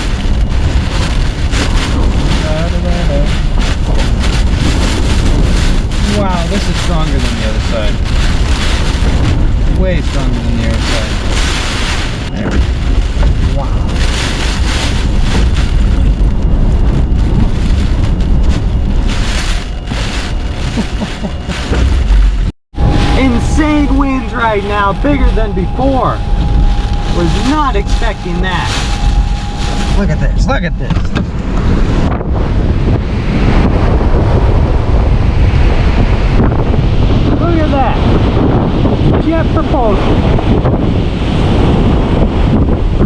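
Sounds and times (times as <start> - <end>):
wind-driven rain hiss: 0.0 - 22.2, 22.8 - 43.0
strong wind rumbling on microphone: 0.0 - 43.0.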